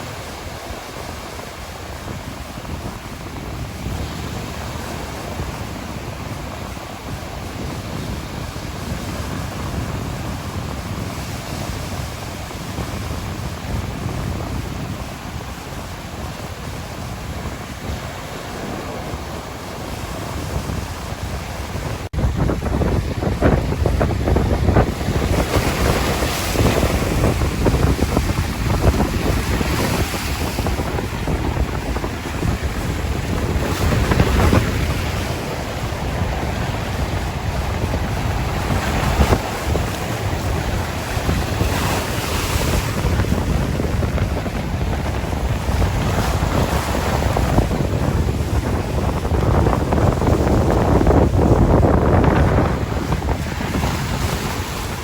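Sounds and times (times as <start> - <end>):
sea waves washing on shore: 0.0 - 55.0
wind rumbling on microphone: 0.0 - 55.0.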